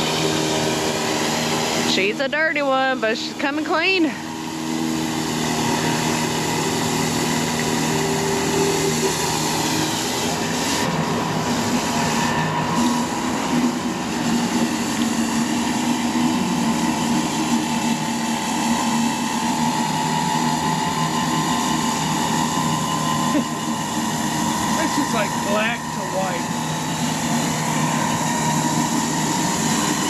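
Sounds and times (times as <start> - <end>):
pressure washer engine hum: 0.0 - 30.0
water jet hissing on concrete: 0.0 - 30.0.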